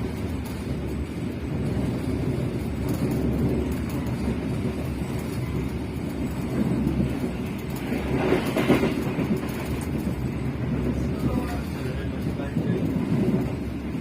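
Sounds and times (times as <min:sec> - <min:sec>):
passenger train rumbling on rails: 0:00.0 - 0:14.0
train rattling: 0:00.0 - 0:14.0.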